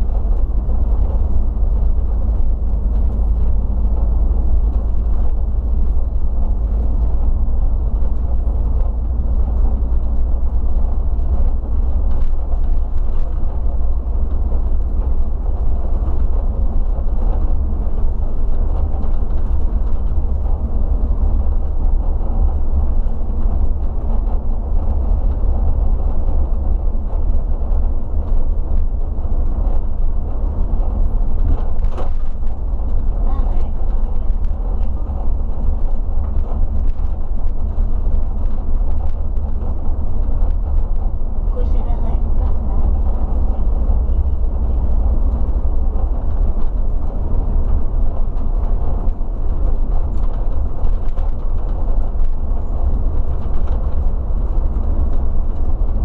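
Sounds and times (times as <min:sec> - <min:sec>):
bus engine and tyre rumble: 0:00.0 - 0:56.0.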